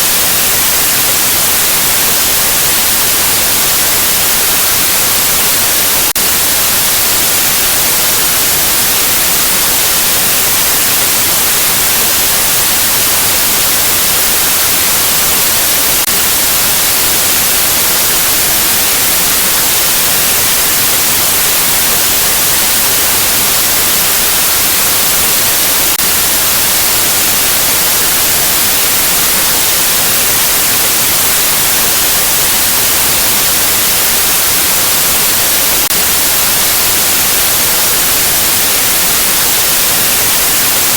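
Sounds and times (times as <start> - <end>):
white-noise static hiss: 0.0 - 40.9.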